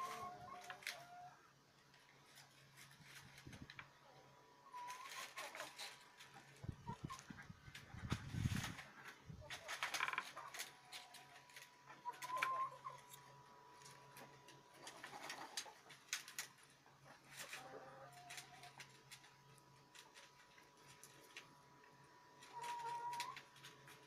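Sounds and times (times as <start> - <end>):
rabbits rustling through dry straw: 0.0 - 24.0.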